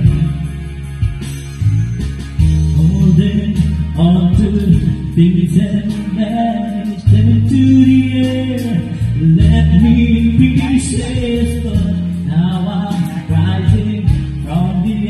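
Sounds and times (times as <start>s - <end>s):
man singing into microphone: 0.0s - 1.2s, 2.6s - 15.0s
instrumental accompaniment with bass: 0.0s - 15.0s.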